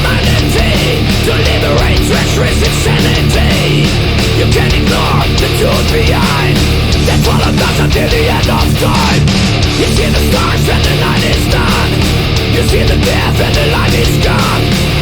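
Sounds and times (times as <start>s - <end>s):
distorted guitars: 0.0s - 15.0s
drums: 0.0s - 15.0s
shouted vocals: 0.0s - 15.0s.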